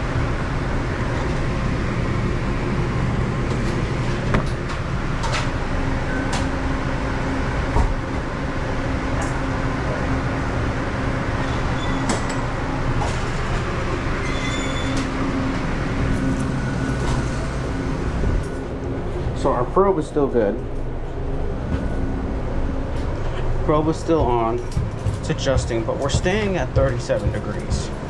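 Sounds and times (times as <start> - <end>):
refrigeration unit humming: 0.0 - 28.0.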